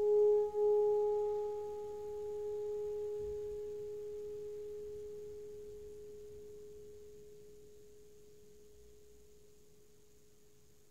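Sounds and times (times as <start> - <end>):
singing bowl ringing: 0.0 - 9.1.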